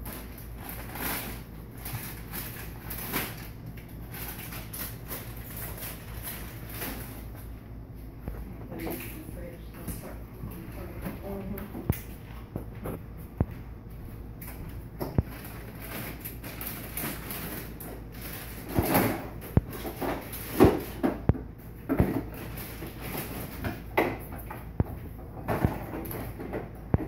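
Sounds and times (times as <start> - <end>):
packages rustling: 0.0 - 13.6, 14.2 - 27.0.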